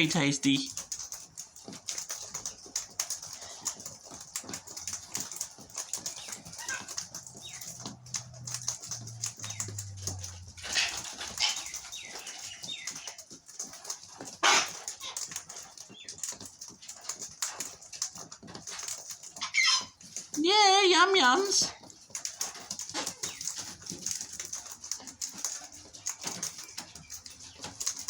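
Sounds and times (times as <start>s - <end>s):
birds pecking seed clicks: 0.0s - 28.0s.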